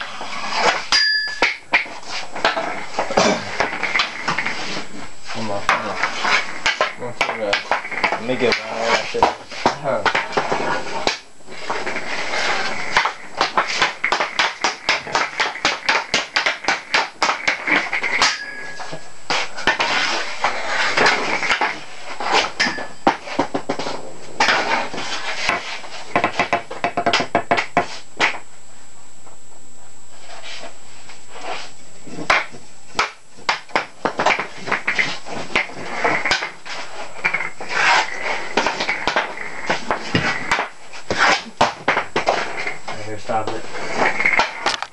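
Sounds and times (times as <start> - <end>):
hockey stick tapping puck: 0.6 - 4.8, 5.7 - 23.8, 24.4 - 28.4, 32.2 - 42.6.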